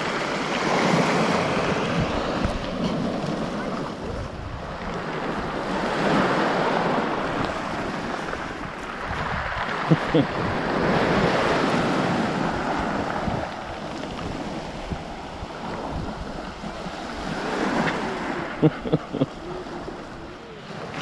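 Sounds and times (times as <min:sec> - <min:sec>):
waves washing over pebbles: 0:00.0 - 0:21.0.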